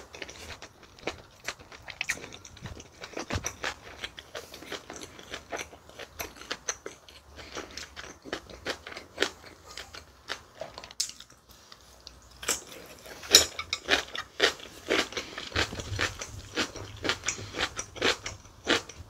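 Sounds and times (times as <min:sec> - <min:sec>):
wet chewing crunches: 0:00.0 - 0:19.0.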